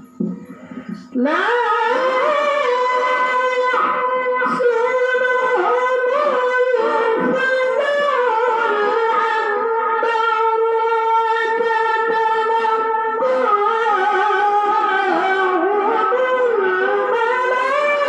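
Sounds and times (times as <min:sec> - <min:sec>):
man reciting melodically: 0:00.1 - 0:18.0.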